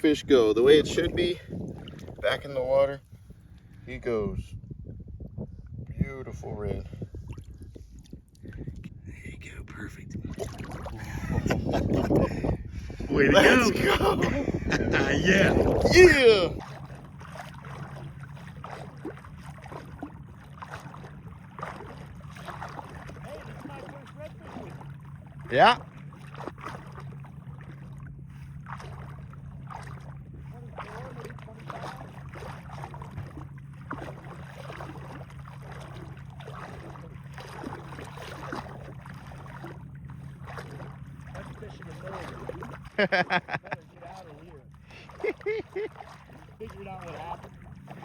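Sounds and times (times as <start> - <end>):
small water splashes and trickles: 0.0 - 4.0, 6.7 - 9.0, 10.1 - 11.6, 15.2 - 48.0
steady low hum: 0.0 - 48.0.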